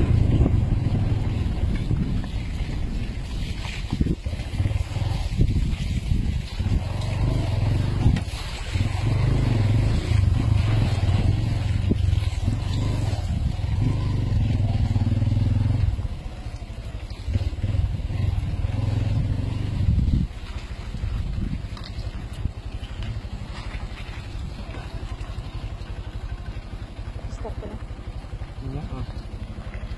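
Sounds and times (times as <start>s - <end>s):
vehicle engine running under load: 0.0s - 29.9s.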